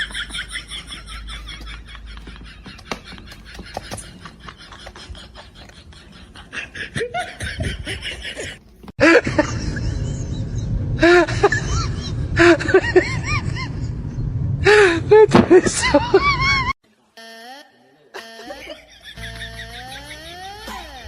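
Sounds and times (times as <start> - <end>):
person laughing: 0.0 - 14.0, 14.6 - 16.8, 18.1 - 21.0.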